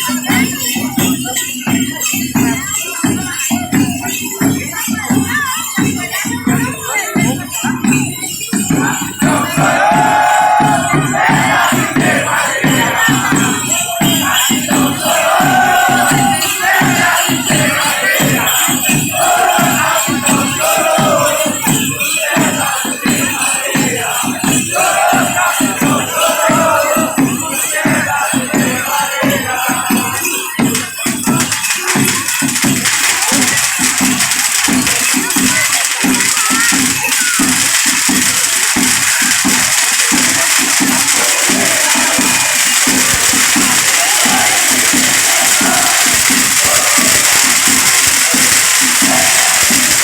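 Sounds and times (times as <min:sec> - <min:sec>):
shakers and rattles: 0:00.0 - 0:50.0
steady drum beat: 0:00.0 - 0:50.0
group singing: 0:05.3 - 0:35.0, 0:39.1 - 0:50.0.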